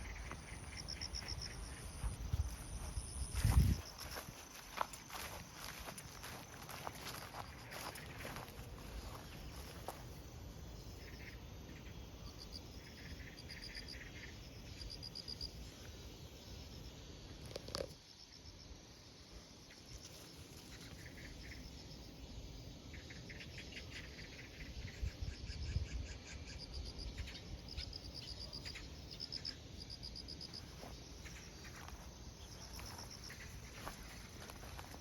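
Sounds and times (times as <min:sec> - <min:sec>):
insects chirping in trills: 0:00.0 - 0:35.0.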